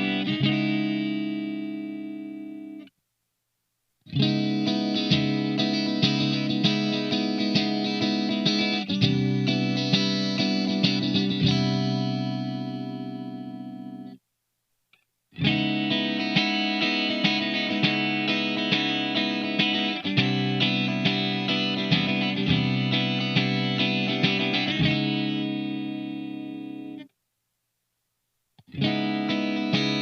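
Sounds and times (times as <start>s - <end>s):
electric guitar picked notes: 0.0s - 2.9s, 4.1s - 14.2s, 15.4s - 27.1s, 28.6s - 30.0s.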